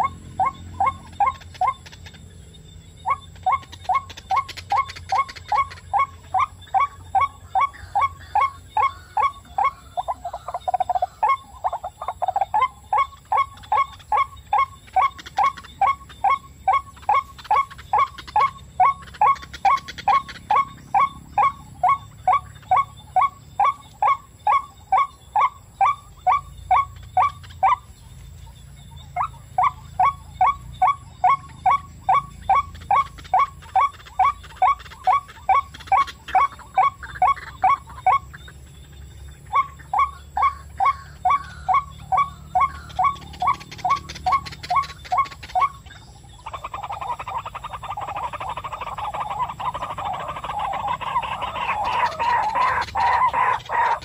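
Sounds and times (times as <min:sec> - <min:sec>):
waterhen calling: 0:00.0 - 0:02.3, 0:02.9 - 0:54.0
rough bird chattering: 0:00.0 - 0:54.0.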